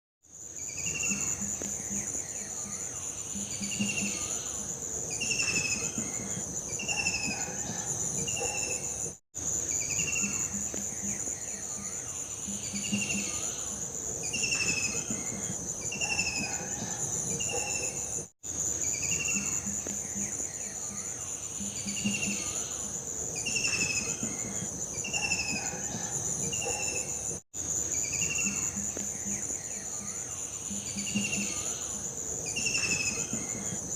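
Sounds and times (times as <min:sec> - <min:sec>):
high insect trill: 0:00.3 - 0:33.9.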